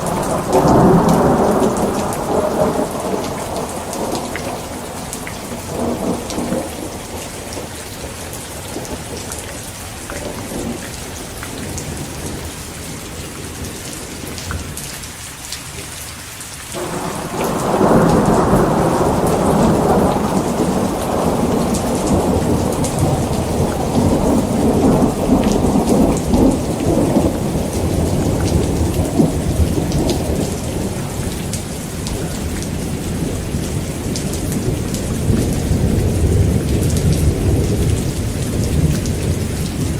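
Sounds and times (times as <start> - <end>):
thunder rumbling: 0.0 - 14.8, 16.8 - 39.9
heavy rain: 0.0 - 39.9.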